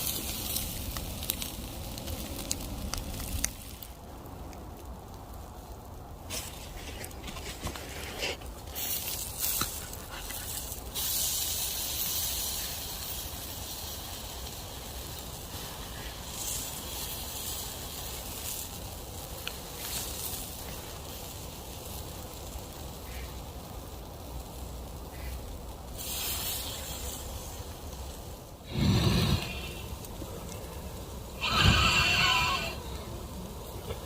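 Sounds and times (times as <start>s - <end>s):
fire crackles: 0.0s - 34.0s
steak sizzling over campfire: 0.0s - 34.0s.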